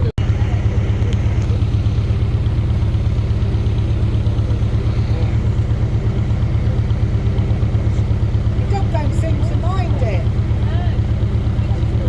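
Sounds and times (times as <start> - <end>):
engine throbbing: 0.0 - 12.0.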